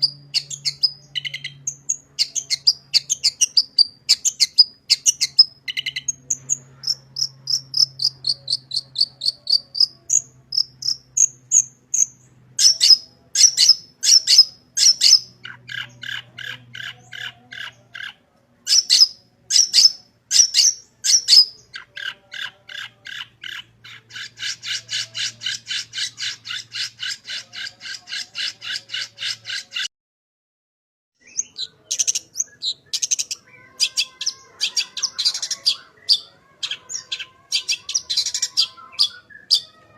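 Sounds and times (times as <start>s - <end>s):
shrike singing: 0.0s - 29.9s, 31.2s - 39.9s.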